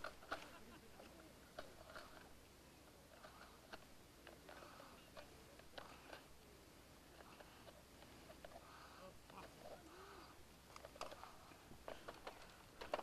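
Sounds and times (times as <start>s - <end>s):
soft clicks and rustles in grass: 0.0s - 13.0s.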